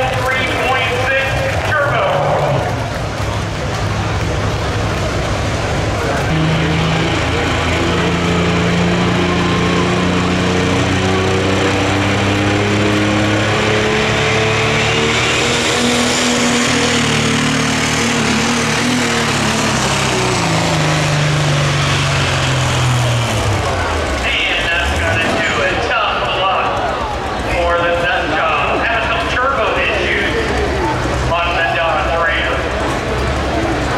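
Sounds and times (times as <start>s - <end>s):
diesel truck engine straining: 0.0s - 33.9s.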